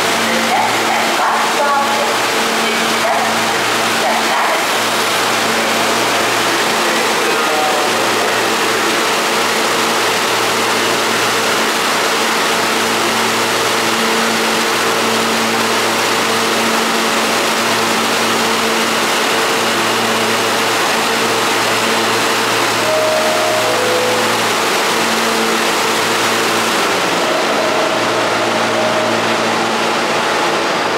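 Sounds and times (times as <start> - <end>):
station noise: 0.0 - 30.9
subway car equipment humming: 0.0 - 30.9.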